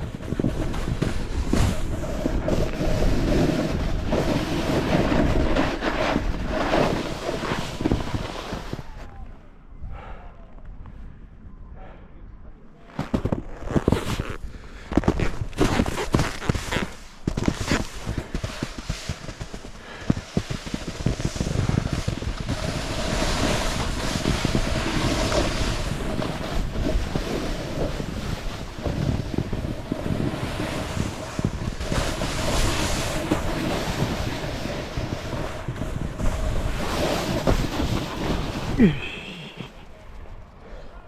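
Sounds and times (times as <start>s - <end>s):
snowboard knocks and bumps: 0.0s - 9.0s, 12.9s - 39.8s
snowboard sliding on snow: 0.0s - 9.1s, 13.0s - 39.8s
wind on microphone: 0.0s - 11.8s, 13.1s - 40.5s.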